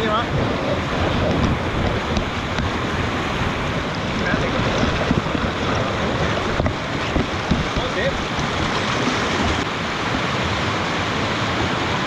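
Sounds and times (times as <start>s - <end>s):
whitewater rushing over rocks: 0.0s - 12.0s
wind buffeting microphone: 0.0s - 12.0s.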